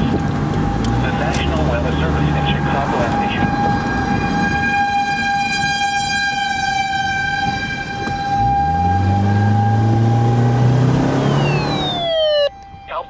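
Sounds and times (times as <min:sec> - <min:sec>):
deeper siren tone rising in pitch: 0:00.0 - 0:13.0
tornado warning siren high tone: 0:01.8 - 0:13.0.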